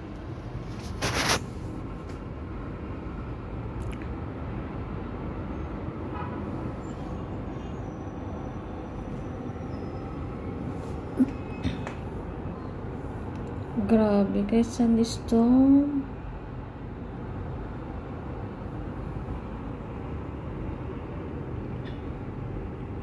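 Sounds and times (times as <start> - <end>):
city traffic: 0.0 - 23.0.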